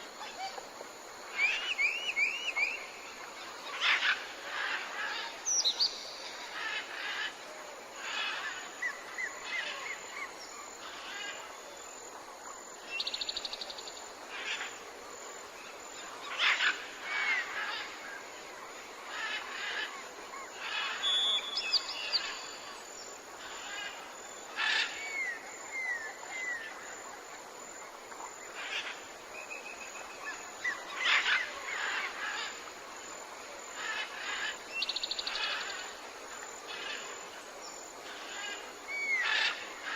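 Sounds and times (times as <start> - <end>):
insects hissing: 0.0 - 39.9.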